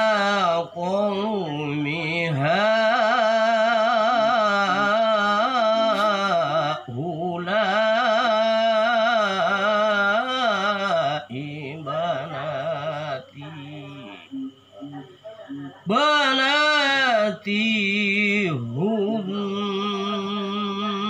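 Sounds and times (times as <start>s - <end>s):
man chanting melodically: 0.0s - 15.0s, 15.8s - 21.0s.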